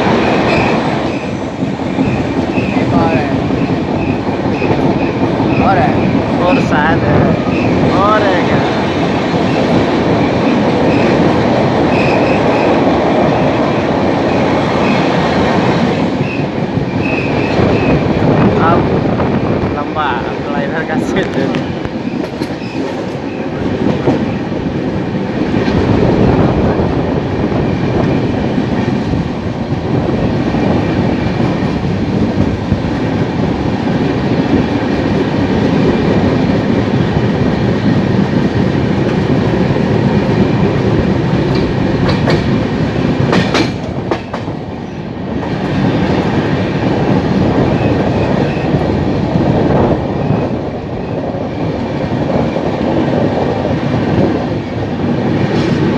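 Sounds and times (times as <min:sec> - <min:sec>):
train wheels clickety-clack: 0:00.0 - 0:55.9.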